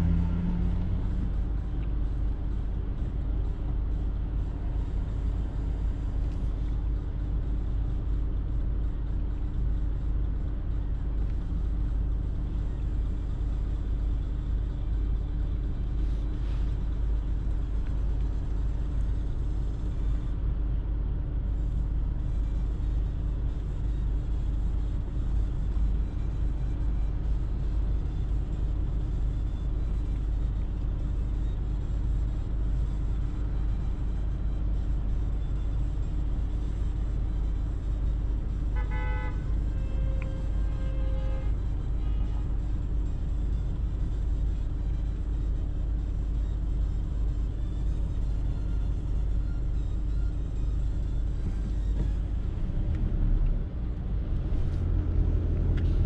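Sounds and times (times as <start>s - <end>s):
constant low hum: 0.0s - 56.0s
idling engines and city traffic: 0.0s - 56.0s.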